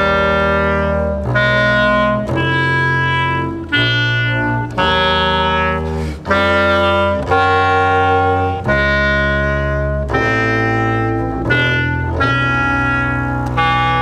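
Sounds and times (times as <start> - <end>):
clarinet low held notes: 0.0 - 14.0
double bass low held notes: 0.0 - 14.0.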